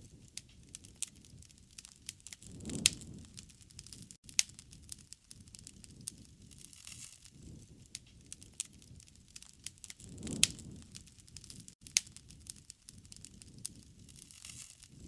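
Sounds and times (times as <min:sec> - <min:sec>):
campfire crackling and popping: 0:00.0 - 0:15.0
low rustle of flames: 0:00.0 - 0:15.0.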